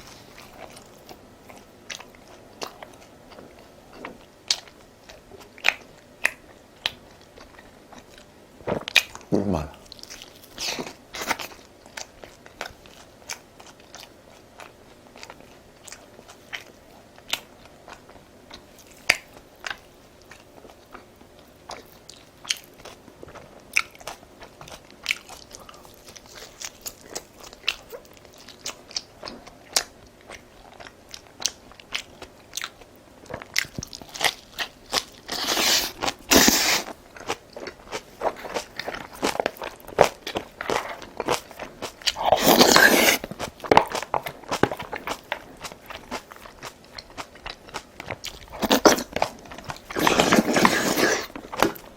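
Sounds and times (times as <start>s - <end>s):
chewing with mouth clicks: 0.0s - 51.9s
food crunching: 0.0s - 51.9s.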